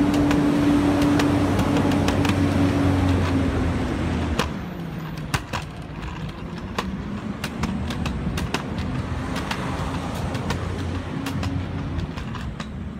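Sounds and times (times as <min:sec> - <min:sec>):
sharp clicks and taps: 0:00.0 - 0:12.9.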